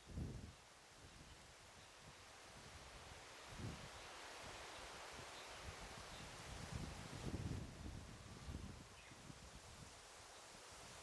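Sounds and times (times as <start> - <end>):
faint forest background hiss: 0.0 - 11.0.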